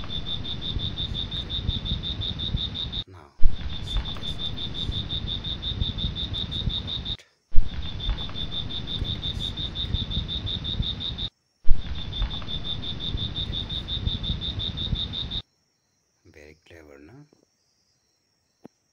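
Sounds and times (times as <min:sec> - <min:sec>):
low rushing noise: 0:00.0 - 0:15.4
high-pitched insect trill: 0:00.0 - 0:18.9.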